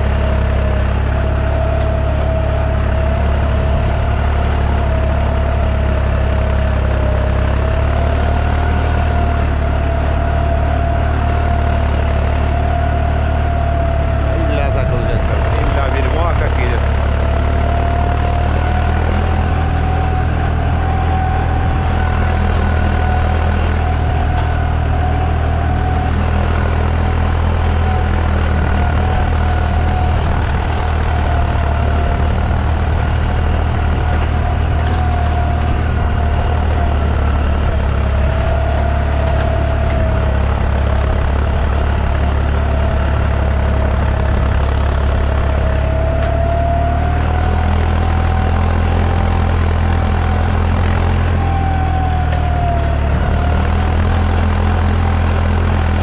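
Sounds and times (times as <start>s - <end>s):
tractor diesel engine running: 0.0s - 56.0s
wavering whine: 0.0s - 56.0s.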